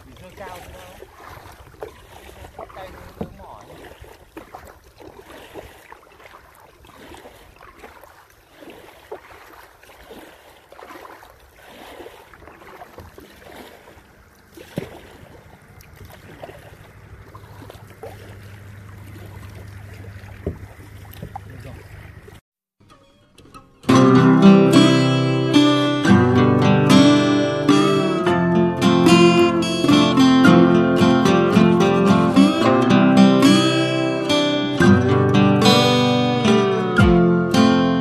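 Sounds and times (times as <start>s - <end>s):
water splashing from paddling: 0.0s - 22.4s, 23.4s - 38.0s.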